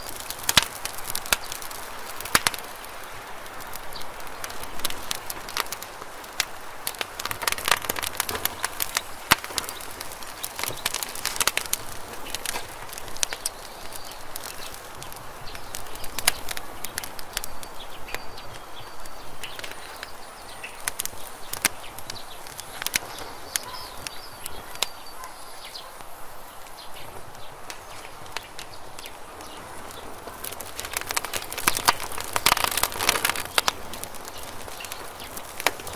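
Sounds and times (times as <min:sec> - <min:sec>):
campfire crackling and popping: 0:00.0 - 0:35.9.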